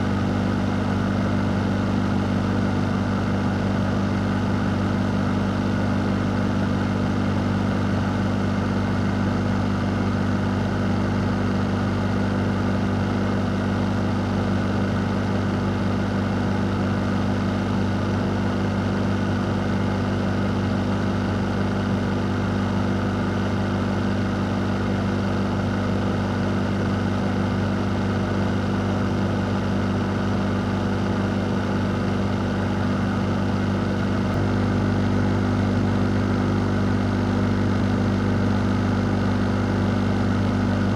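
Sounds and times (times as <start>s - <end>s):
fan running: 0.0s - 40.9s.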